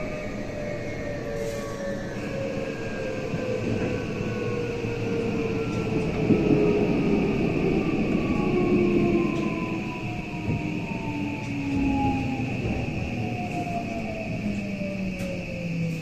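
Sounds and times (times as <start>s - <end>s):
wheel and rail rumble: 0.0s - 16.0s.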